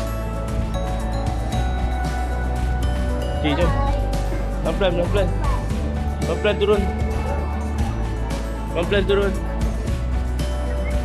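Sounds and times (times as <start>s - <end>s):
music with deep bass: 0.0s - 11.0s.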